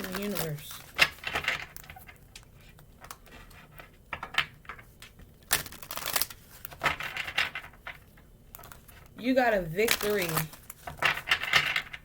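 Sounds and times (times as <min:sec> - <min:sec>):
cards being shuffled: 0:00.0 - 0:04.0, 0:04.6 - 0:09.2, 0:09.8 - 0:12.0.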